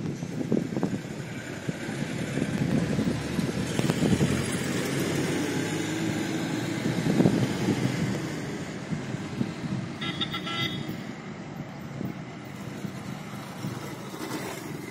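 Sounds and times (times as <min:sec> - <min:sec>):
road traffic noise: 0:00.0 - 0:14.9.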